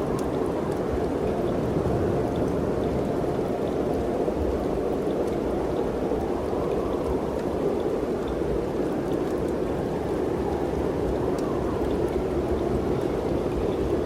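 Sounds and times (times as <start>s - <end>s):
steady mountain wind: 0.0s - 14.0s.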